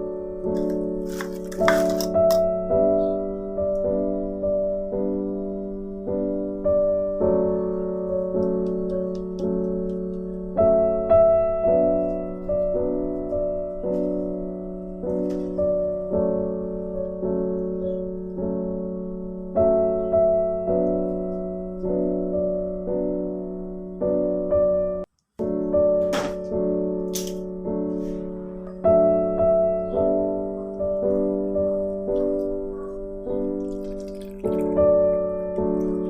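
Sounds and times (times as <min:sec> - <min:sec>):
slow gentle piano music: 0:00.0 - 0:36.0.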